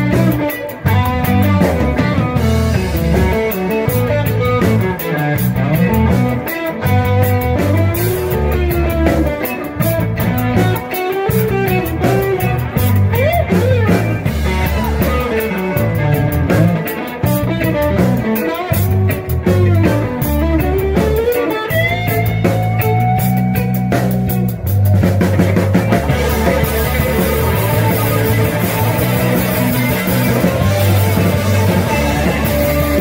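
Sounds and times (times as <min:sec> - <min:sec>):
drum kit beat: 0:00.0 - 0:33.0
electric bass: 0:00.0 - 0:33.0
electric guitar: 0:00.0 - 0:33.0.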